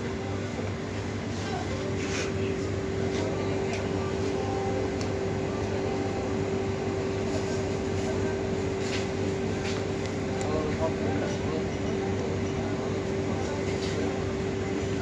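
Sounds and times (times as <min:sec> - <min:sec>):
refrigerated counter humming: 0:00.0 - 0:15.0.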